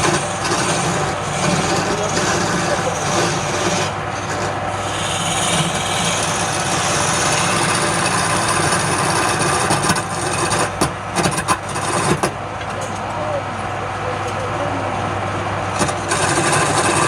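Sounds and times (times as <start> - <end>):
turning tool scraping wood: 0.0 - 12.4, 15.6 - 17.0
wood lathe motor hum: 0.0 - 12.4, 14.4 - 17.0.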